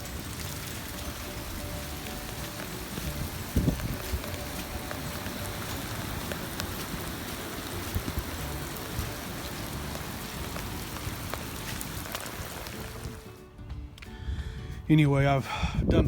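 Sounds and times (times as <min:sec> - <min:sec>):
close raindrop hits: 0:00.0 - 0:13.3
runoff water rushing over soil: 0:00.0 - 0:13.4
steady rain falling: 0:00.0 - 0:13.4.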